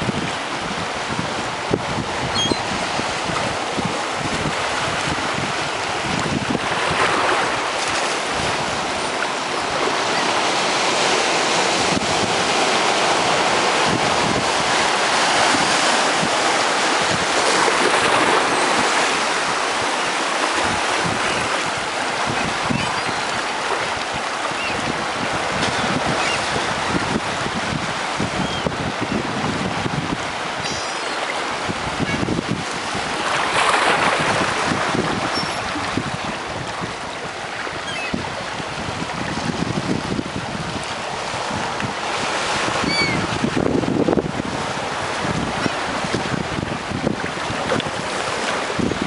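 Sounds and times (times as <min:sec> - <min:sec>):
wind buffeting microphone: 0:00.0 - 0:49.0
surf breaking on rocks: 0:02.7 - 0:49.0.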